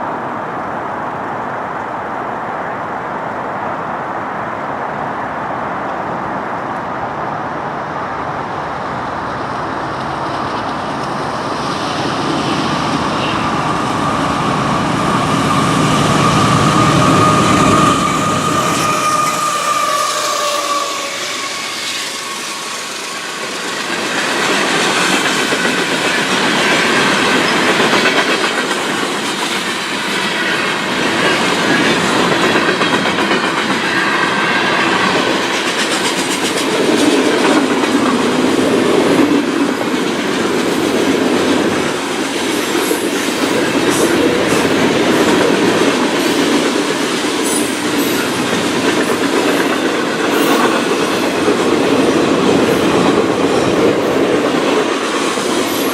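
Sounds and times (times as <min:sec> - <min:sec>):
freight train cars rolling past: 0:00.0 - 0:55.9.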